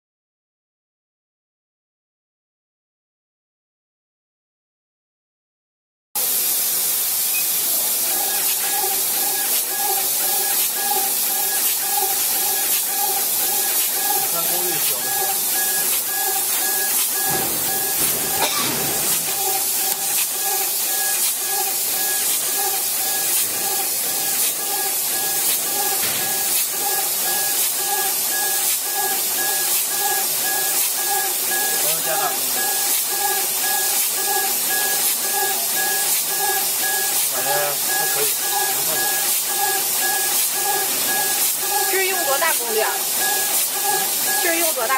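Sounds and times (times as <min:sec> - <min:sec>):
laser engraver motors humming: 0:06.2 - 0:44.9.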